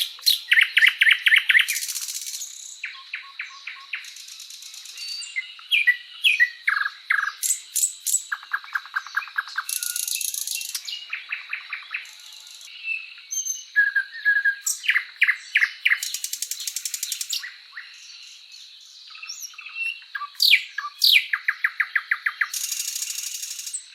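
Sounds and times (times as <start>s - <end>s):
birds singing and calling: 0.0s - 23.9s.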